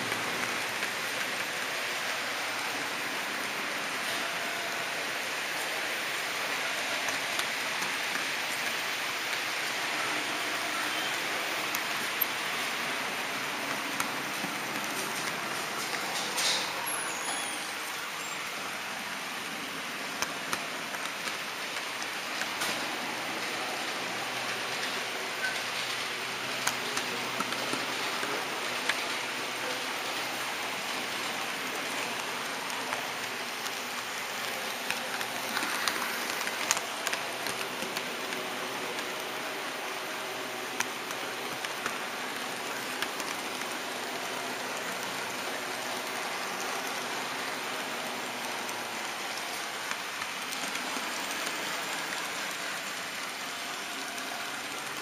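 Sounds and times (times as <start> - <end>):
model train wheels rolling: 0.0 - 55.0.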